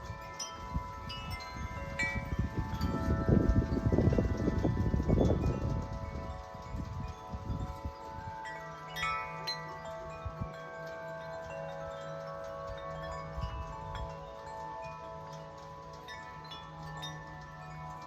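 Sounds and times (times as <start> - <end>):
wind buffeting microphone: 0.0 - 18.0
wind chime ringing: 0.0 - 18.0.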